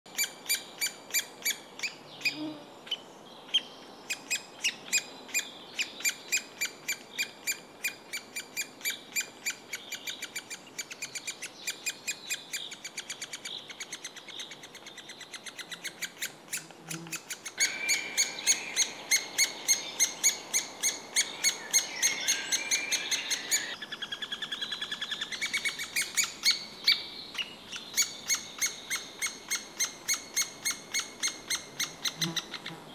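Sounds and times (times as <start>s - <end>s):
woodpecker nestling chirping: 3.5s - 32.8s.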